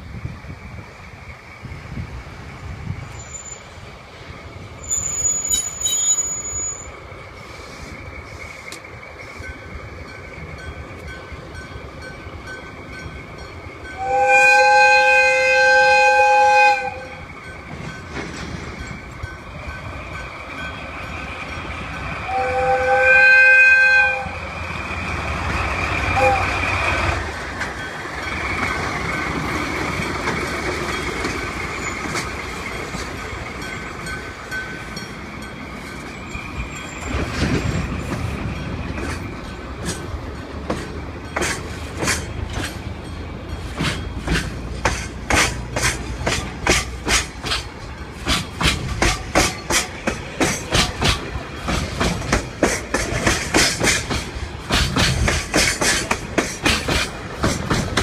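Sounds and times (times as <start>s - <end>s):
freight train rumbling: 0.0s - 58.0s
train wheels clacking over rail joints: 7.4s - 23.0s, 24.5s - 58.0s.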